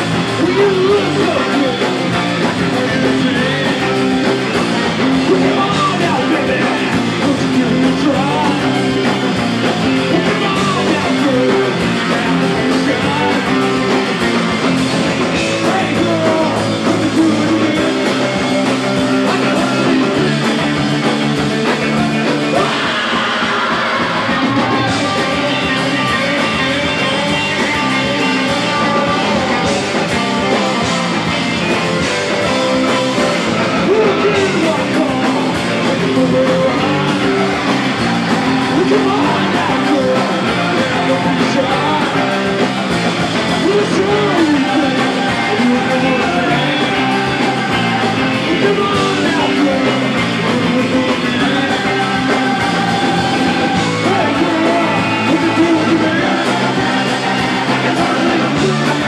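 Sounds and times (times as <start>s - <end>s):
person singing: 0.0s - 20.8s, 21.9s - 59.0s
electric guitar: 0.0s - 59.0s
rock band playing live: 0.0s - 59.0s.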